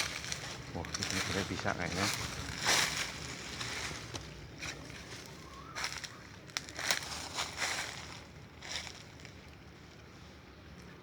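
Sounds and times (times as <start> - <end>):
footsteps crunching dry leaves: 0.0 - 10.1.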